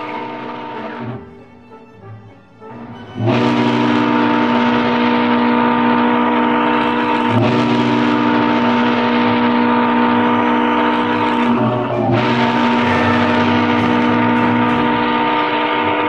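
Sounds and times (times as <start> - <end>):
ship's steam whistle blasts: 0.0 - 1.6, 2.7 - 16.0
steam hiss: 3.0 - 16.0.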